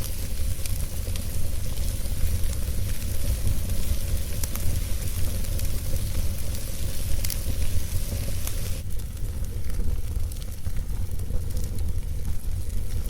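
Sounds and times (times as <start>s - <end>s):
wood fire crackling and hissing: 0.0s - 13.0s.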